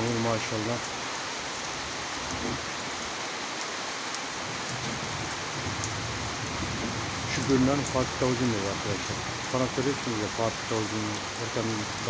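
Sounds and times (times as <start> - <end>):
heavy rain on ground and leaves: 0.0 - 12.0.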